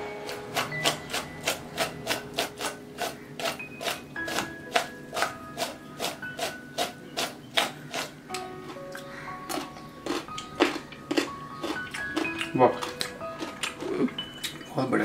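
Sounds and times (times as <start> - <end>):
light music with chime notes: 2.8 - 15.0.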